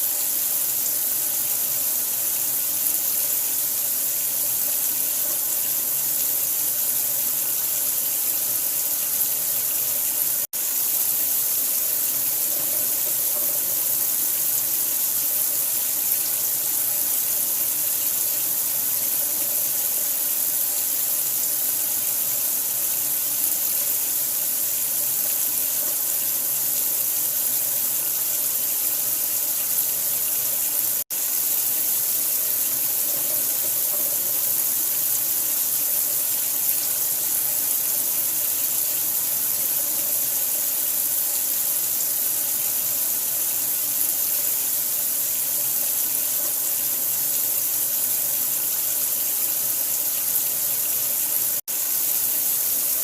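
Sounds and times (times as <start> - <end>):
running water hissing: 0.0 - 53.0.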